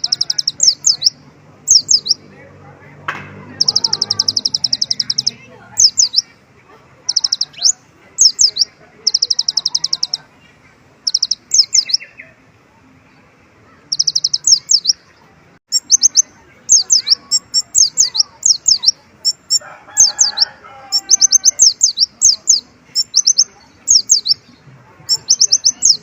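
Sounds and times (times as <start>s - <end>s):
bird singing trills and chirps: 0.0s - 2.3s, 3.4s - 6.4s, 7.0s - 12.4s, 13.6s - 26.0s.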